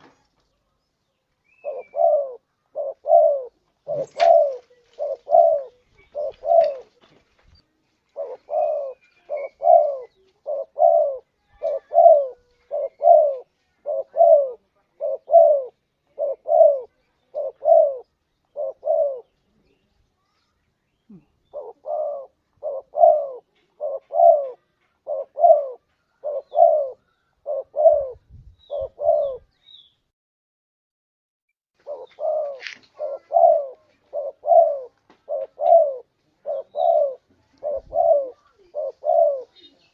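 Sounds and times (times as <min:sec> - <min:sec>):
dove cooing: 0:01.5 - 0:07.1, 0:08.1 - 0:19.7, 0:21.1 - 0:29.6, 0:31.8 - 0:39.9.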